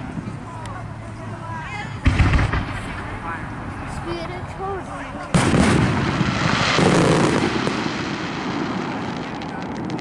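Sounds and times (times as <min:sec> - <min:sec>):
long rolling rumble: 0:00.0 - 0:10.0.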